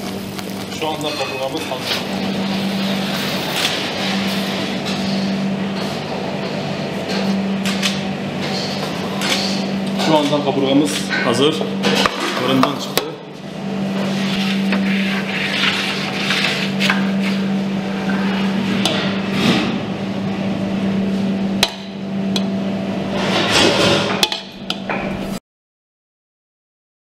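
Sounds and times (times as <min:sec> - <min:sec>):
steady low hum: 0:00.0 - 0:25.4.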